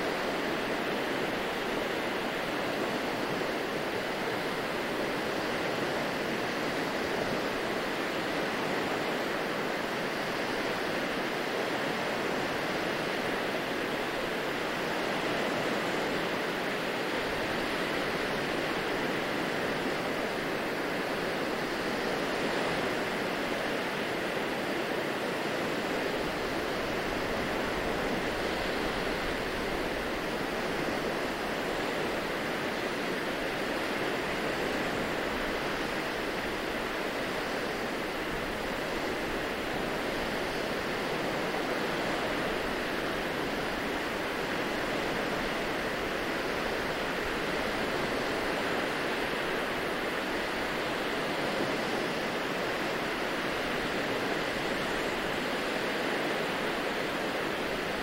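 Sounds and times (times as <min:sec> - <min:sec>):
small waves washing on beach: 0:00.0 - 0:58.0.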